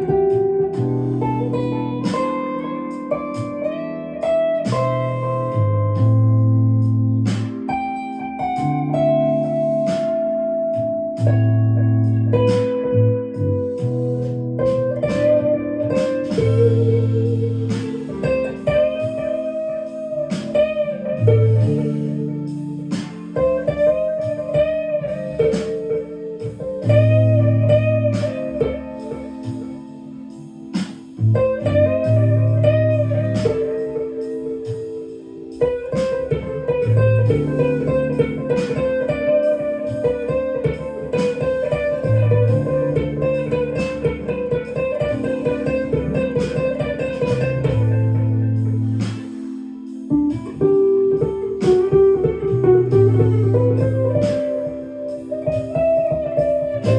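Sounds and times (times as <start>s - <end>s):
clean electric guitar lead: 0.0s - 56.9s
sustained bass notes and chords: 0.0s - 56.9s.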